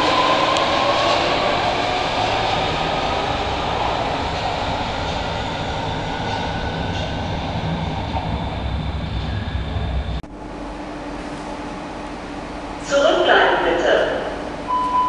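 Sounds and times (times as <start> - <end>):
subway train pulling away: 0.0 - 15.0.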